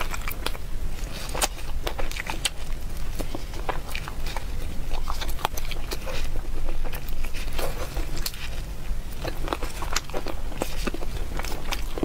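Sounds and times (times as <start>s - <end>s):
chewing and biting food: 0.0s - 12.0s.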